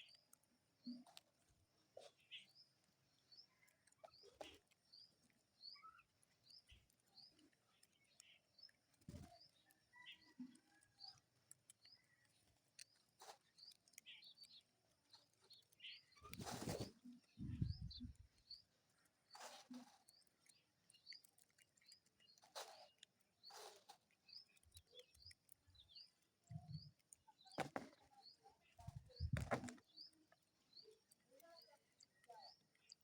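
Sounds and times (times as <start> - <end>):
small bird chirping: 0.0 - 33.0.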